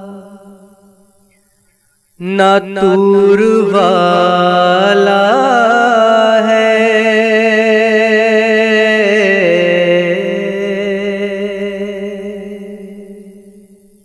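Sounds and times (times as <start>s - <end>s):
man singing long vibrato note: 0.0s - 1.1s, 2.2s - 14.0s.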